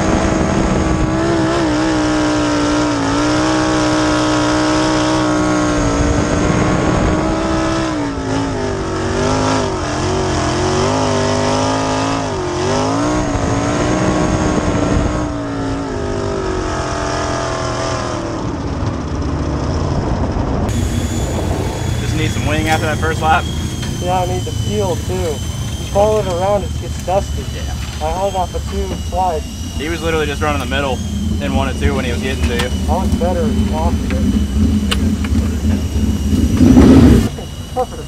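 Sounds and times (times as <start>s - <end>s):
race car engine at high revs: 0.0s - 38.0s.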